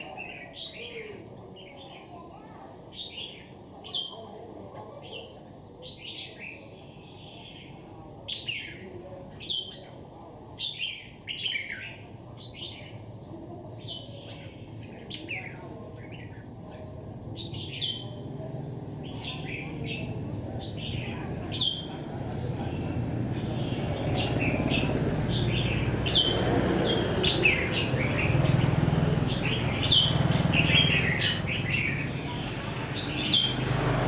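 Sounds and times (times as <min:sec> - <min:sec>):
bird chirping: 0:05.8 - 0:34.0.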